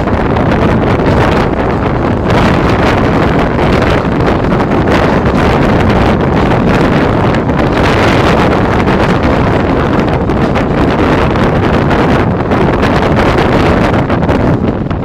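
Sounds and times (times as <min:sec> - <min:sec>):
train rumbling: 0:00.0 - 0:15.0
wind buffeting microphone: 0:00.0 - 0:15.0.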